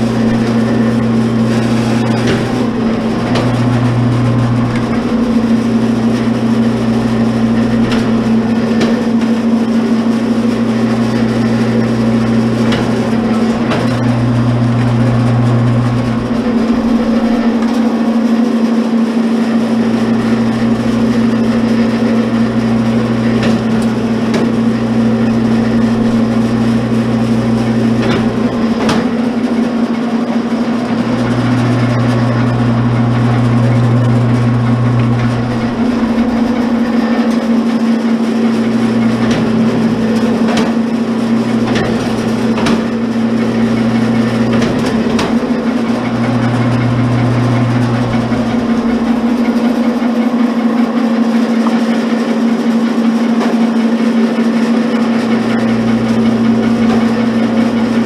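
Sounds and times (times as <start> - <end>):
deeper hum: 0.0 - 52.2, 54.9 - 58.0
wire stripper motor hum: 0.0 - 58.0.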